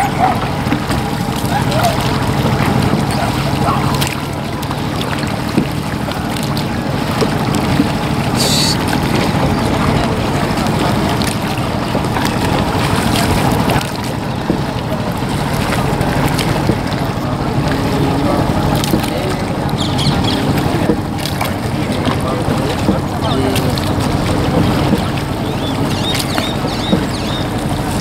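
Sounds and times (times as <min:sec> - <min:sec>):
water noise from rowing boat: 0:00.0 - 0:28.0.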